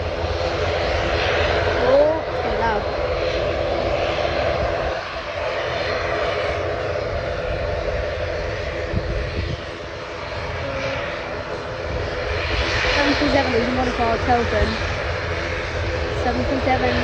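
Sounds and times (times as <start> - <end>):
airliner engines humming: 0.0 - 17.0.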